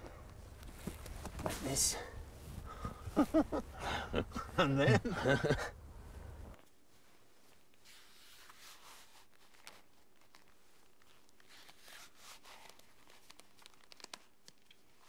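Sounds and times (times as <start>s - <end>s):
soft clicks and rustles: 0.0s - 3.6s, 6.4s - 15.0s.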